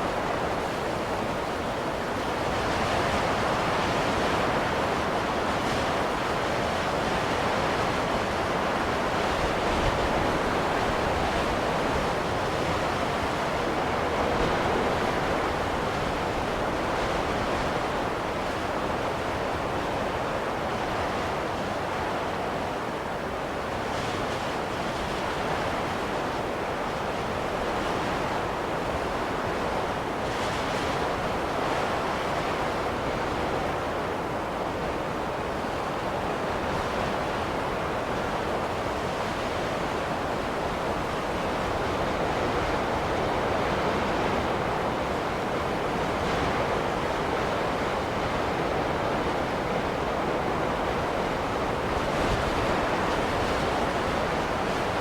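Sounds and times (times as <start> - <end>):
rushing wind of a snowstorm: 0.0 - 55.0.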